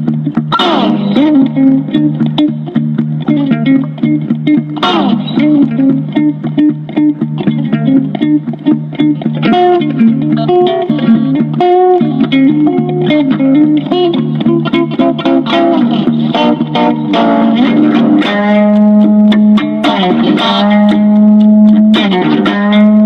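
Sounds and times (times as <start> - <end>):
guitar music with bass: 0.0 - 23.0.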